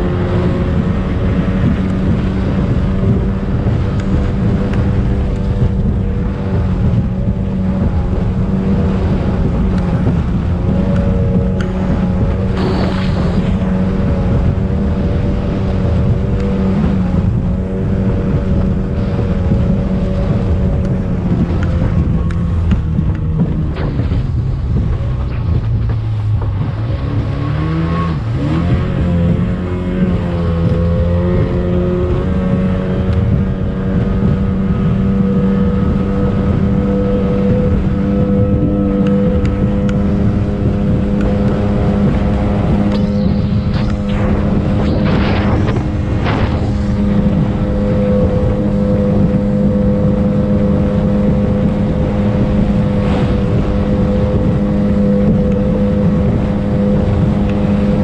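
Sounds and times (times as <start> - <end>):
hull running over water: 0.0 - 58.0
speedboat engine running: 0.0 - 58.0
wind on microphone: 0.0 - 58.0.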